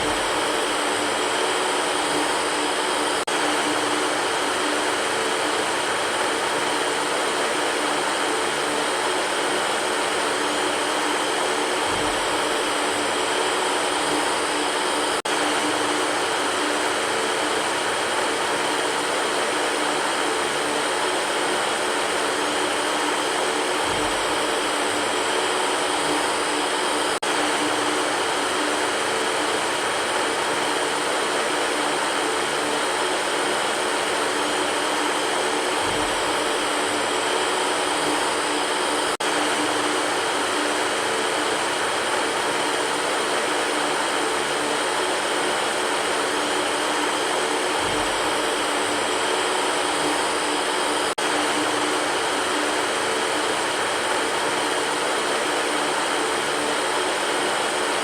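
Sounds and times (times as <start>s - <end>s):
electric fan running: 0.0s - 58.0s.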